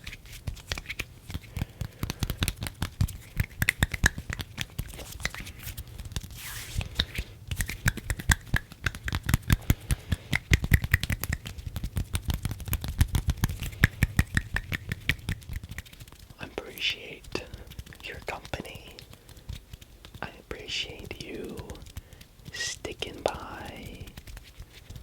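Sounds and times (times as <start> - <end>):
hissing hand rub: 0.0 - 20.2
fingers clicking and crackling: 0.0 - 25.0.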